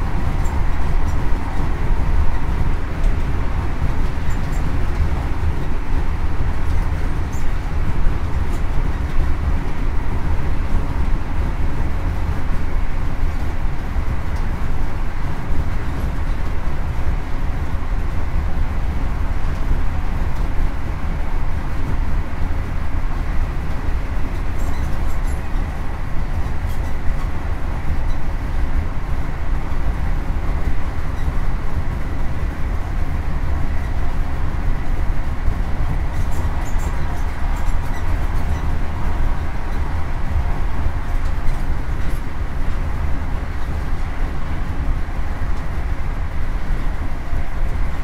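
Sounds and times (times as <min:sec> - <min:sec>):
diesel train engine rumble: 0:00.0 - 0:48.0
train wheels on rails: 0:00.0 - 0:48.0.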